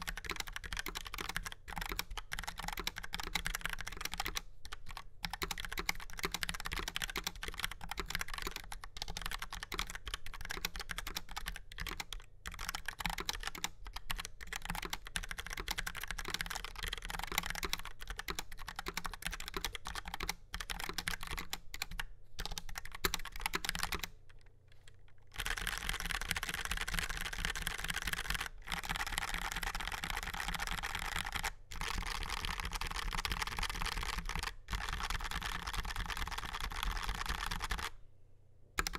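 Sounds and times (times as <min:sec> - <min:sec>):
mechanical keyboard typing: 0:00.0 - 0:38.0.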